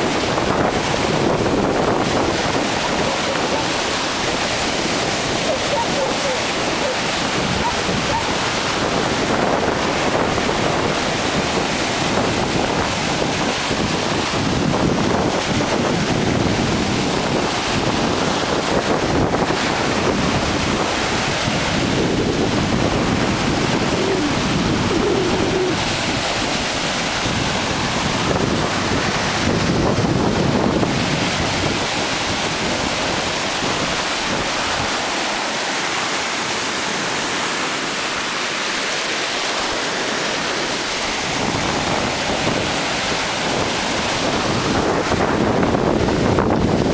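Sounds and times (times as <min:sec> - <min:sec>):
wind buffeting microphone: 0:00.0 - 0:38.3, 0:39.4 - 0:46.9
small waves breaking on beach: 0:00.0 - 0:46.9.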